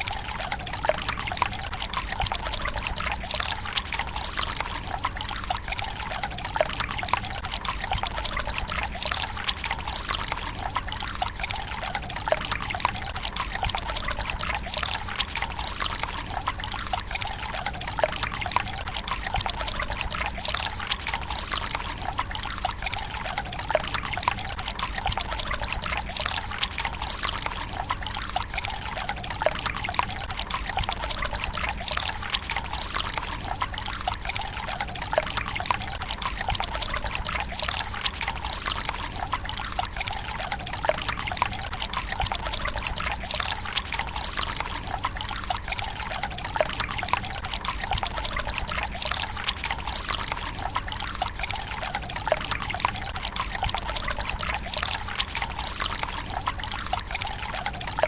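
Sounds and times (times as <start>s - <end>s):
water trickling into stone basin: 0.0s - 58.0s.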